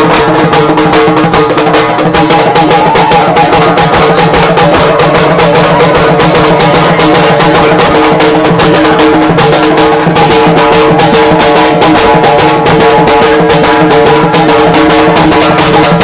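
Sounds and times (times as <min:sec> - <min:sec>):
frame drum beaten fast: 0:00.0 - 0:16.0.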